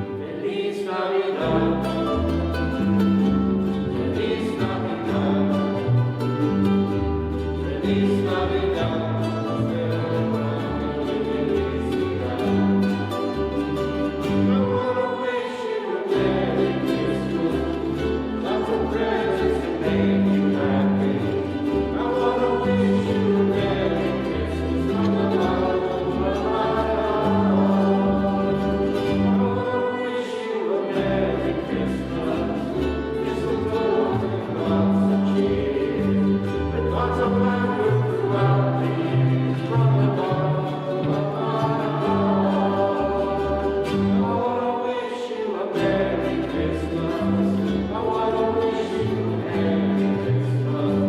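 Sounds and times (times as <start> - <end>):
choir singing a carol: 0.0 - 51.0.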